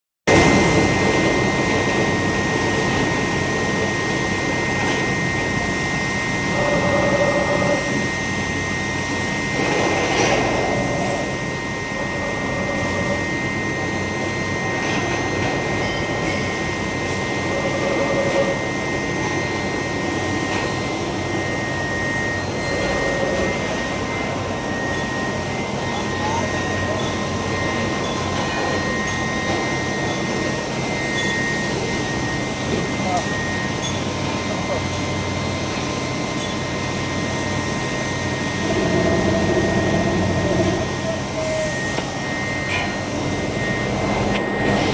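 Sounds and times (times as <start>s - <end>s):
furnace roaring: 0.3s - 44.9s.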